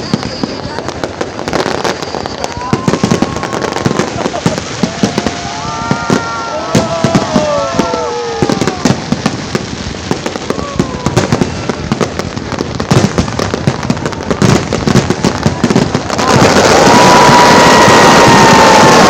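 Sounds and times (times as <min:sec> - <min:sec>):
fireworks bangs and crackles: 0:00.0 - 0:19.0
fireworks falling whistles: 0:00.0 - 0:19.0.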